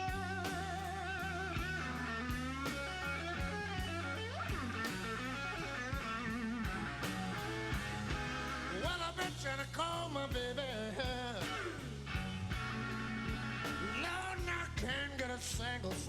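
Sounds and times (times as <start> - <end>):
electric guitar fill: 0.0 - 15.0
bass and drums: 0.0 - 16.0.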